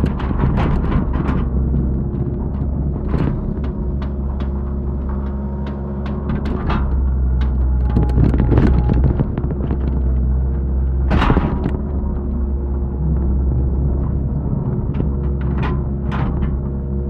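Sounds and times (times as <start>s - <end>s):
excavator diesel engine: 0.0s - 17.0s
knocks and scrapes of digging: 0.0s - 17.0s.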